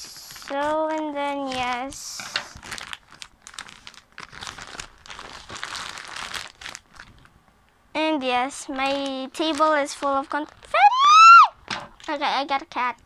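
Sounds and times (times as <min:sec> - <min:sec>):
plastic packaging crinkling: 0:00.0 - 0:07.3, 0:08.2 - 0:12.2.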